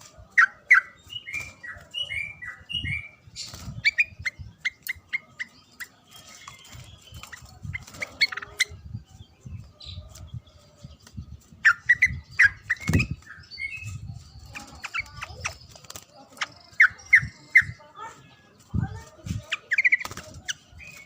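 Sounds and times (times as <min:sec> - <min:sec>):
bird chirping: 0:00.2 - 0:21.0.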